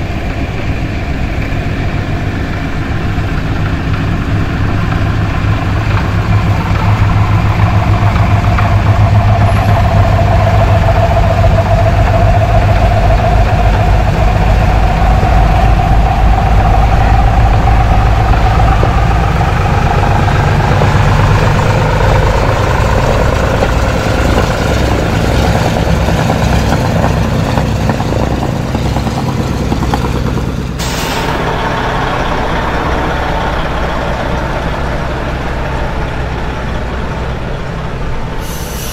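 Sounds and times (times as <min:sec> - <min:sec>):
propeller plane engines running: 0:00.0 - 0:38.9.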